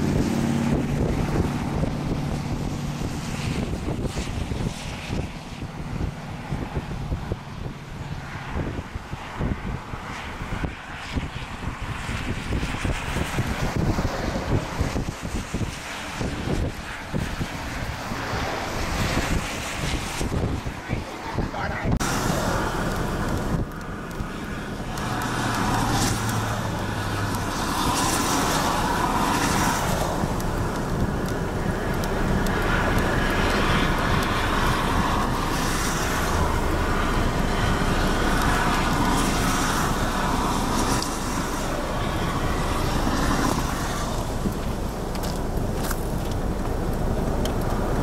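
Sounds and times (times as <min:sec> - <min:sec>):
outdoor rushing noise: 0:00.0 - 0:48.0.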